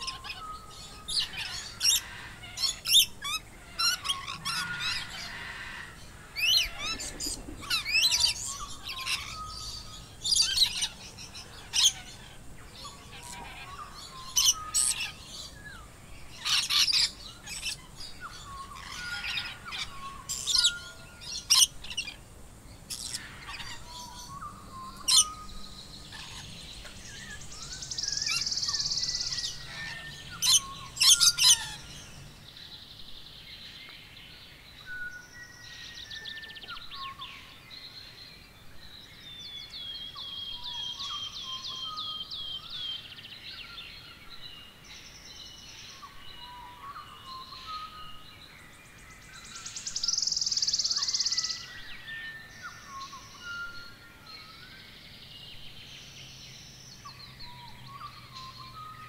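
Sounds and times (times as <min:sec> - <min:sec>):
birds chirping and calling: 0:00.0 - 0:59.0.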